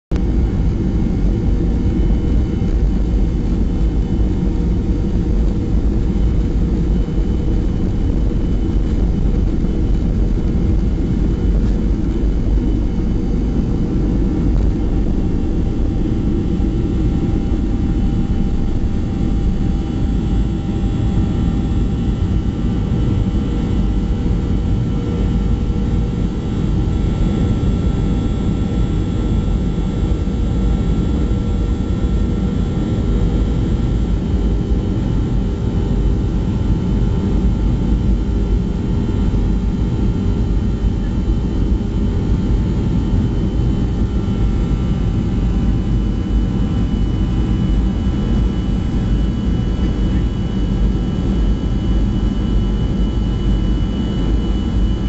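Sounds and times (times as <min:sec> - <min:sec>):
jet engine whine: 0:00.1 - 0:55.0
jet engines rumbling: 0:00.1 - 0:55.0.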